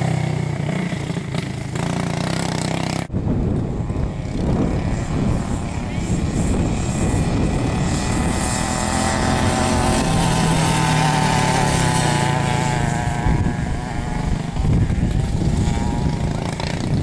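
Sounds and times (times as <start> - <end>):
go-kart engine running hard: 0.0 - 17.0.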